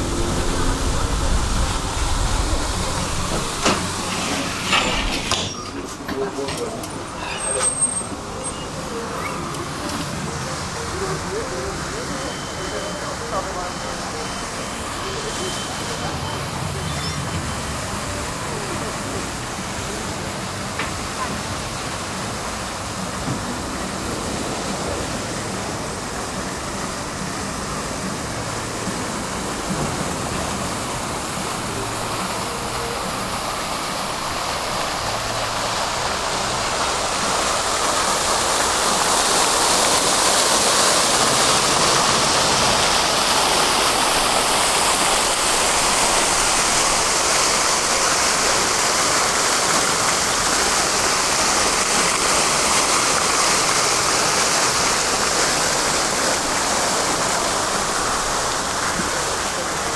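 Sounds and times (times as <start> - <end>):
tram rolling on rails: 0.0 - 59.9.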